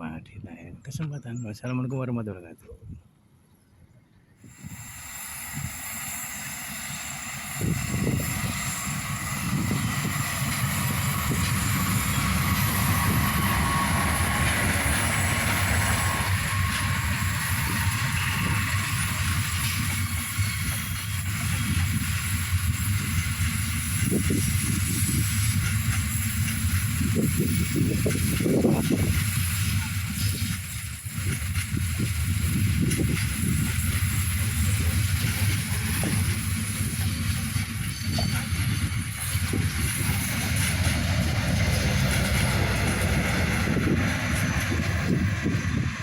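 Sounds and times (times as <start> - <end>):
passenger train rumbling past: 4.4 - 46.0.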